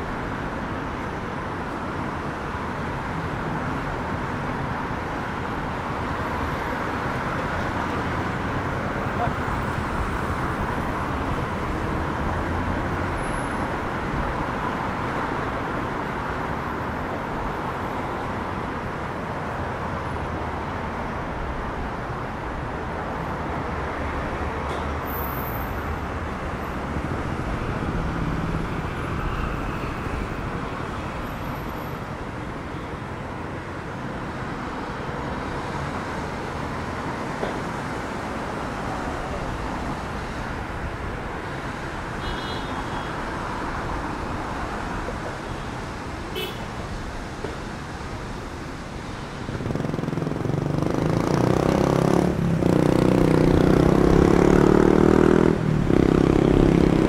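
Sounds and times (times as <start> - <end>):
passing vehicles traffic noise: 0.0 - 57.0.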